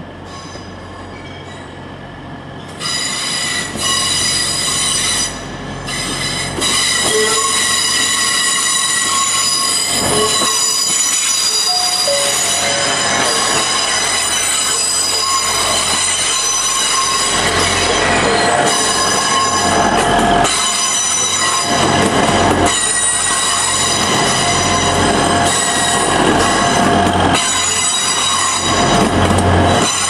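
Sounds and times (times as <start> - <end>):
diesel train engine rumble: 0.0 - 30.0.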